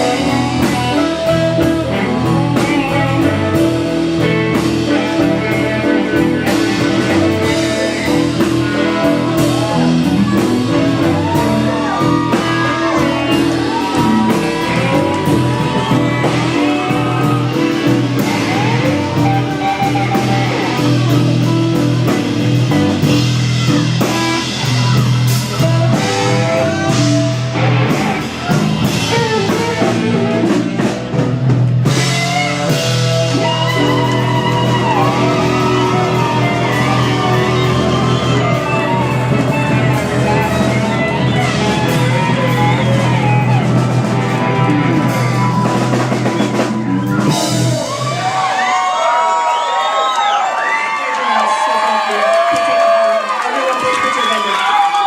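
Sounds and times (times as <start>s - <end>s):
loud rock music: 0.0s - 50.4s.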